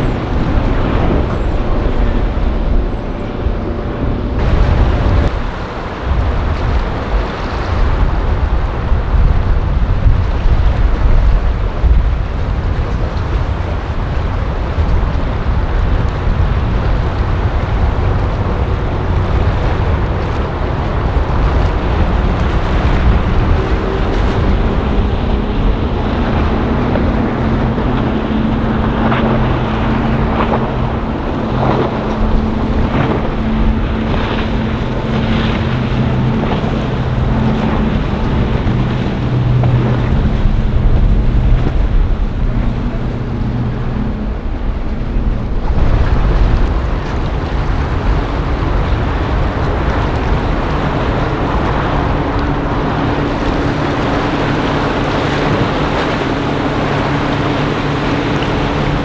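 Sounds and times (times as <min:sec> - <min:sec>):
motorboat engines running: 0:00.0 - 0:59.0
sea wash: 0:00.0 - 0:59.0
wind buffeting the microphone: 0:00.0 - 0:59.0.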